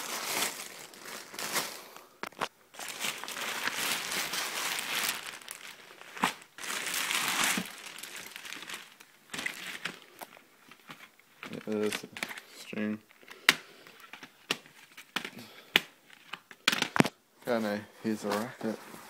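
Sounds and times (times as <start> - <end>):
packaging crinkling: 0.0 - 15.3.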